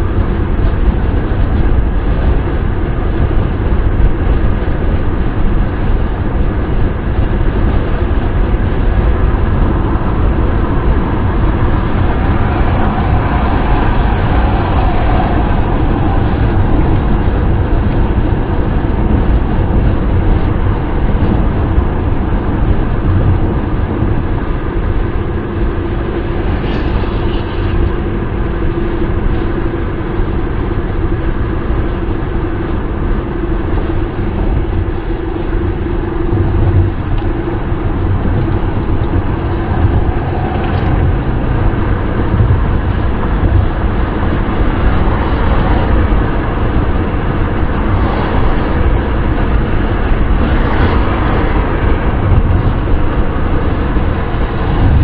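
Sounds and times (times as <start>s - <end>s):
car driving road noise: 0.0s - 55.0s.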